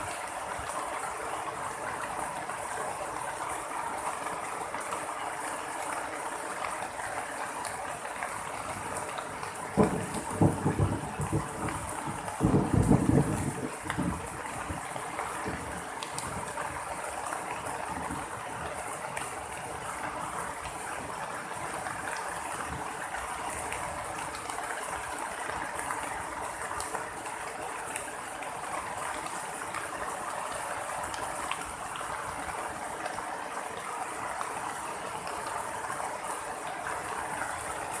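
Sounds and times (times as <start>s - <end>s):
heavy rain falling: 0.0s - 38.0s
raindrops ticking on surfaces: 0.0s - 38.0s.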